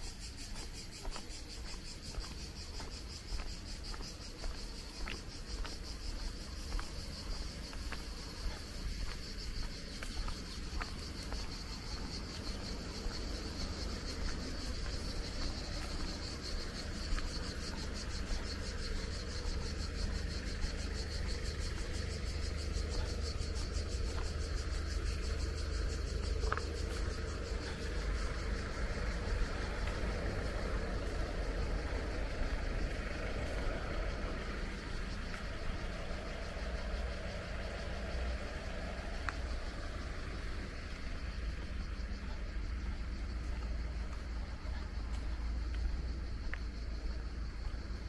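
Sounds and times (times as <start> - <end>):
insects chirping: 0.0 - 48.0.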